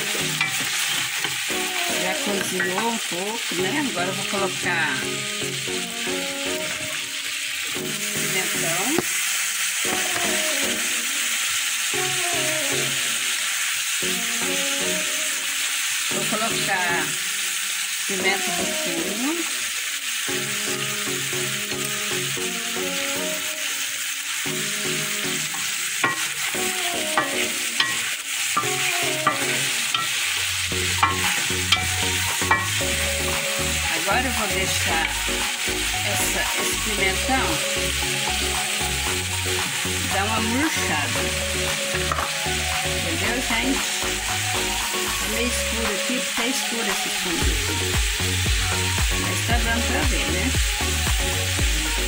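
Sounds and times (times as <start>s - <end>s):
meat sizzling in a pot: 0.0s - 52.0s
melodic background music: 0.0s - 52.0s.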